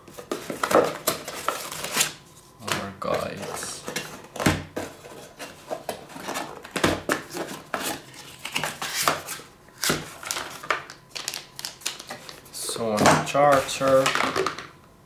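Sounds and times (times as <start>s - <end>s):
cardboard packaging rustling: 0.0s - 14.6s.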